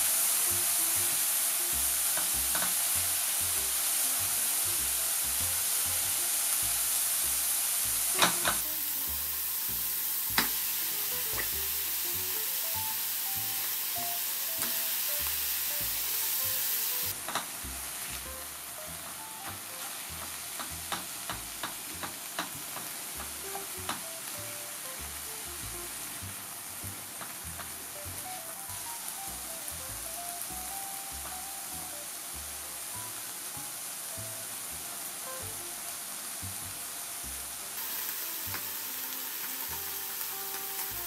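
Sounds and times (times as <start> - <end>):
meat and vegetables sizzling in oil: 0.0 - 41.0.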